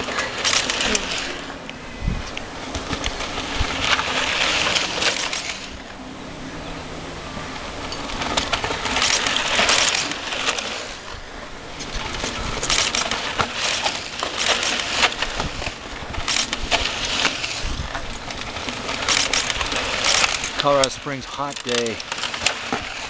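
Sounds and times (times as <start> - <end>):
bike tyres crunching on gravel: 0.0 - 1.6, 2.2 - 6.0, 7.6 - 23.0
bike clicks and rattles: 0.0 - 6.0, 7.7 - 23.0.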